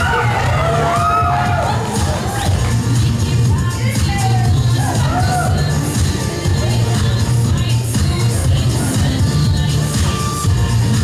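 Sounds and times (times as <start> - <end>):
audience noise: 0.0 - 11.0
dance music with pulsing bass: 0.0 - 11.0.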